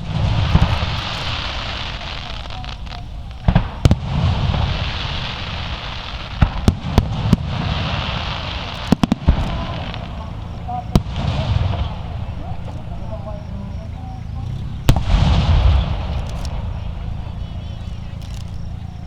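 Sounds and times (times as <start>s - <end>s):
firework shells bursting: 0.0s - 19.0s
rumbling hissing background: 0.0s - 19.0s.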